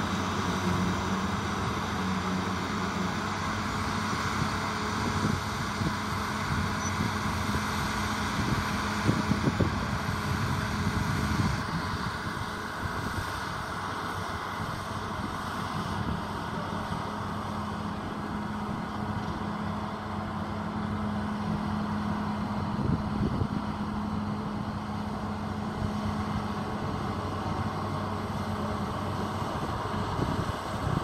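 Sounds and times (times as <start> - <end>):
road roller diesel engine: 0.0 - 31.0.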